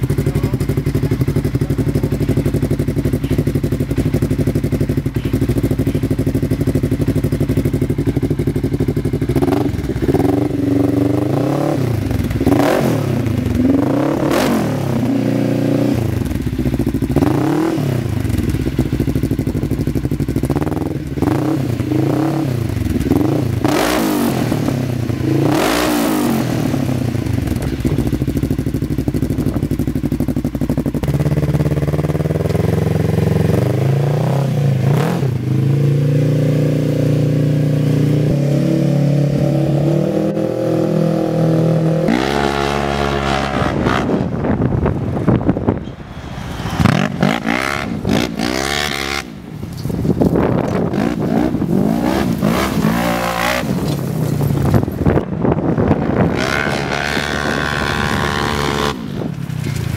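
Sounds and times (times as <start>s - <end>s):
off-road vehicle engine revving: 0.0s - 45.3s, 46.4s - 49.5s, 50.2s - 55.2s, 55.8s - 59.9s.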